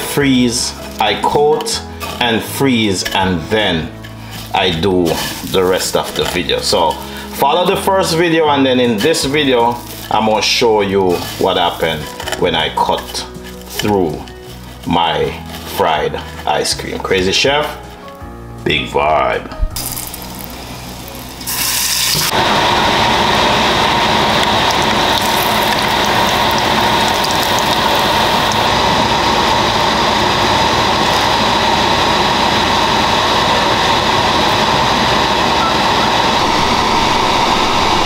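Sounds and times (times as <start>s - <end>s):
hot oil sizzling: 0.0s - 18.0s, 19.7s - 38.0s.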